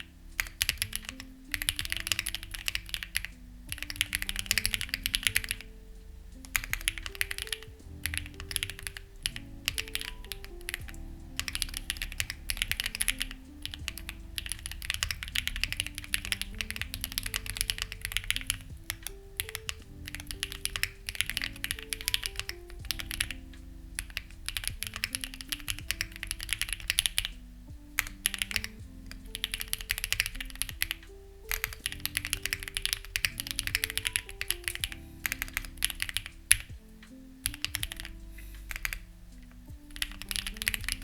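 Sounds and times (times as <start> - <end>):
mechanical keyboard typing: 0.0 - 27.4, 28.0 - 36.7, 37.4 - 39.0, 39.8 - 41.0
soft background music: 0.0 - 41.0.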